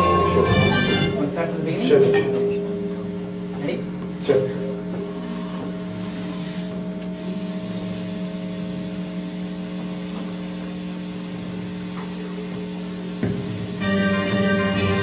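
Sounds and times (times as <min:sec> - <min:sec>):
low hum from sound system: 0:00.0 - 0:15.0.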